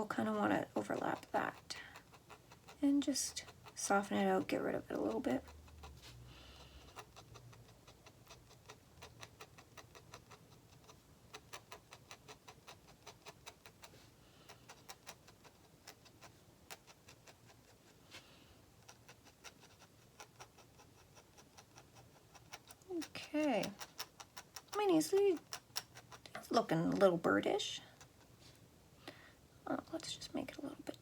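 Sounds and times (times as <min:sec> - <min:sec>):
pen scratching: 0:00.0 - 0:18.0, 0:18.8 - 0:27.0
pen nib ticking on paper: 0:00.1 - 0:17.9, 0:18.8 - 0:27.0.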